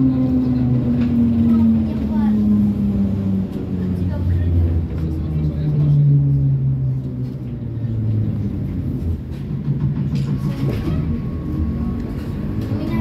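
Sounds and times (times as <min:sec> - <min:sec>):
trolleybus rumble and hum: 0:00.0 - 0:13.0.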